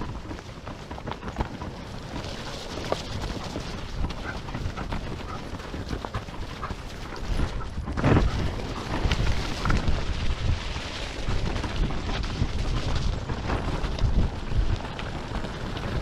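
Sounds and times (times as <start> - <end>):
wheels rolling on dirt trail: 0.0 - 16.0
wind buffeting microphone: 0.0 - 16.0.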